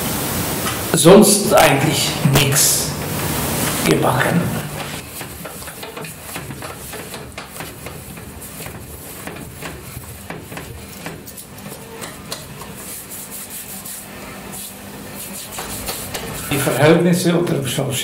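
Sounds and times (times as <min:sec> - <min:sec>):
hands kneading dough: 0:02.4 - 0:16.8.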